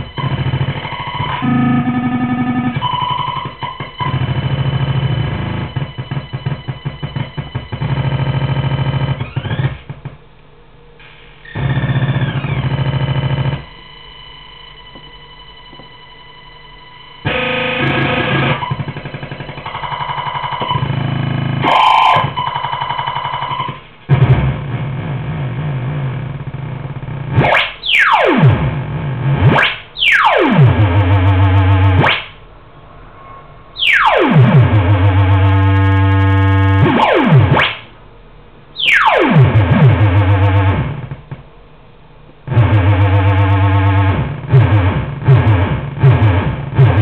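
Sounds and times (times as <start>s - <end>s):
harsh buzzing synth tones: 0.0s - 10.4s, 11.4s - 32.5s, 33.7s - 38.0s, 38.8s - 41.5s, 42.3s - 47.0s.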